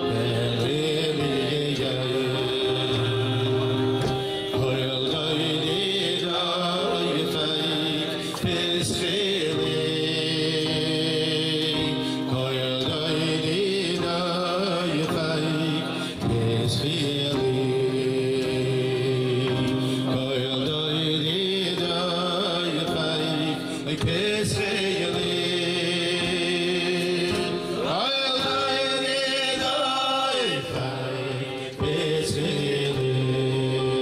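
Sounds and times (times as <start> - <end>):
live musical accompaniment: 0.0 - 34.0
men singing religious melody: 0.0 - 34.0.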